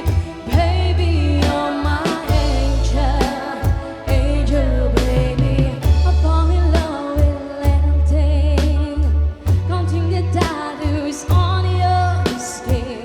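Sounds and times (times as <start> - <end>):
band playing pop ballad: 0.0 - 13.0
person singing: 0.0 - 13.0.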